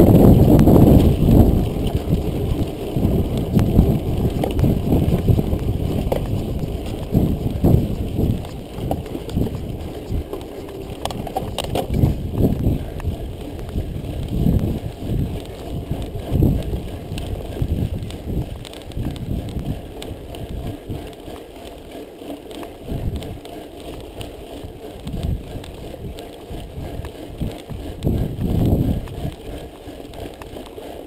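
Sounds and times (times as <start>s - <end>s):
wind buffeting microphone: 0.0s - 21.9s, 22.5s - 30.7s
bike rattling: 0.0s - 31.0s
tyres rumbling on dirt: 0.0s - 31.0s.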